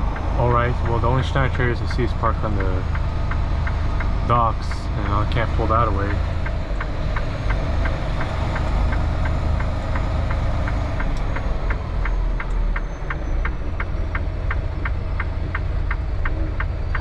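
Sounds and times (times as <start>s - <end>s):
diesel truck engine: 0.0s - 17.0s
steady ticking: 0.0s - 17.0s.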